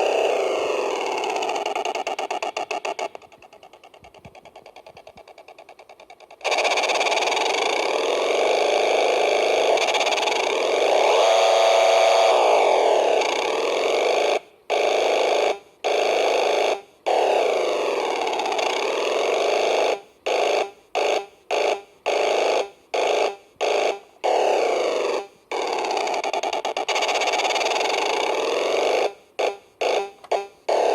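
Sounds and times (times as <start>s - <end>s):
harsh electronic buzz: 0.0s - 30.9s.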